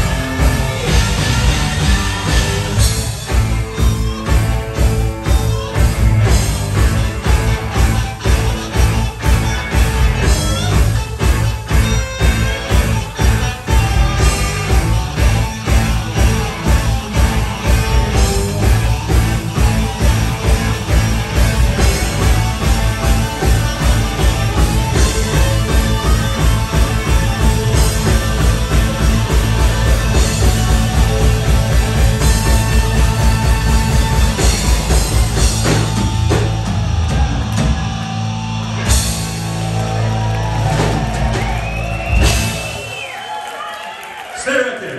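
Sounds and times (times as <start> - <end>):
live rock band playing: 0.0 - 43.5.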